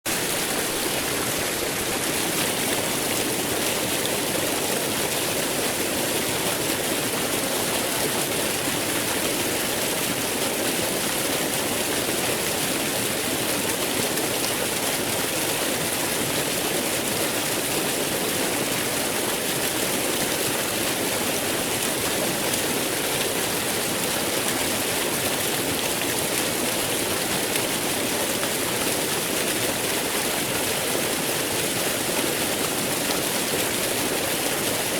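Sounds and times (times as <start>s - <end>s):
waterfall pouring: 0.1s - 34.9s.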